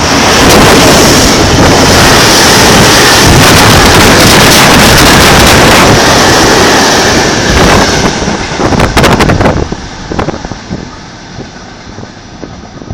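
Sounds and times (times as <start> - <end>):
freight train passing: 0.0 - 12.9
wind buffeting microphone: 0.0 - 12.9.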